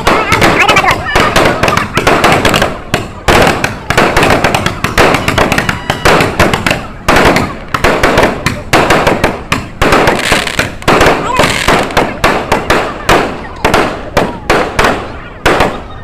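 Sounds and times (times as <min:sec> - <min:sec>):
fireworks and firecrackers banging: 0:00.0 - 0:16.0.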